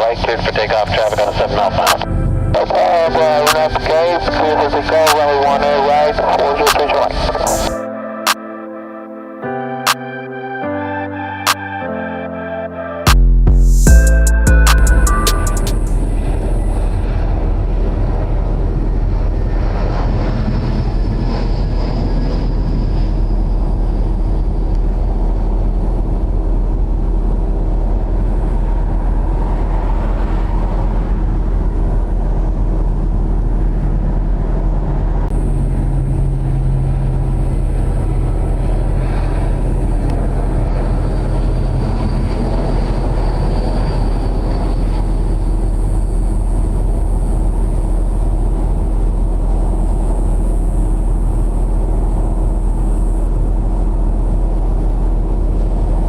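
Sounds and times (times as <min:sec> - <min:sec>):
jet engines droning: 0:00.0 - 0:13.1, 0:13.9 - 0:56.0.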